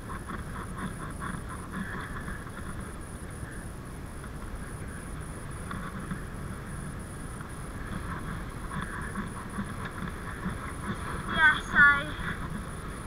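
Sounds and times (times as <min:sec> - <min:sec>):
bicycle tyres rumbling on tarmac: 0:00.0 - 0:13.0
wind on microphone: 0:00.0 - 0:13.0.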